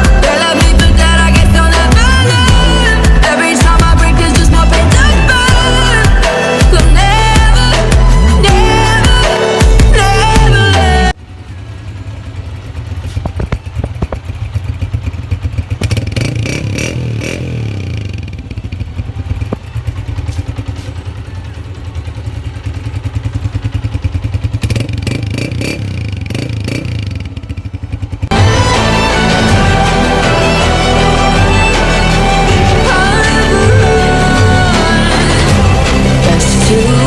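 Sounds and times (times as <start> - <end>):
motorcycle engine pulsing exhaust: 0.0 - 37.0.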